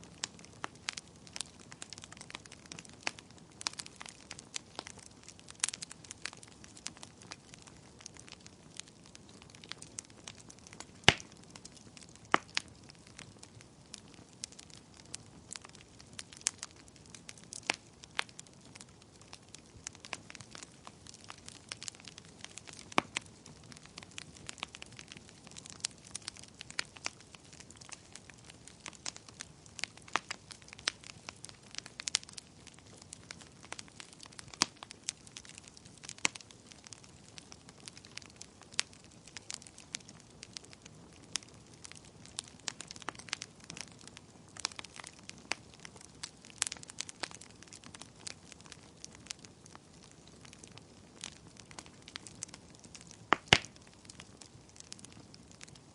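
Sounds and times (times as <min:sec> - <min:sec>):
logs crackling and popping: 0:00.0 - 0:55.9
soft steady fire hiss: 0:00.0 - 0:55.9.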